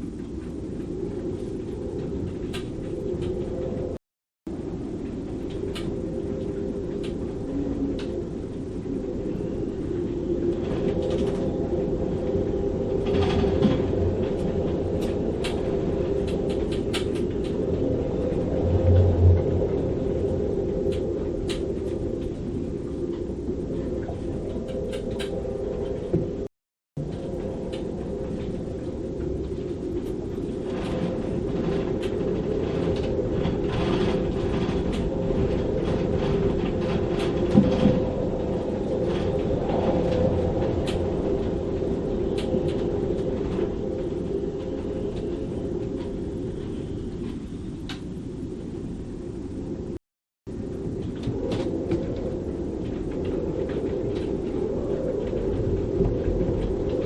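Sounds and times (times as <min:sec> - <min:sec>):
storm wind howling in rigging: 0:00.0 - 0:57.0.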